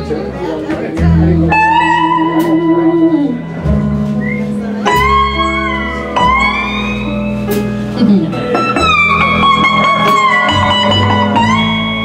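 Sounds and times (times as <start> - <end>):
bass: 0.0 - 12.0
sliding lead guitar notes: 0.0 - 12.0.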